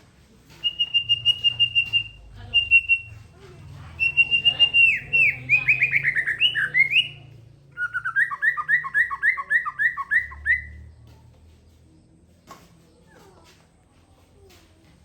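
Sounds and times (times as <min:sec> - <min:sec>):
songbird singing: 0:00.5 - 0:13.6.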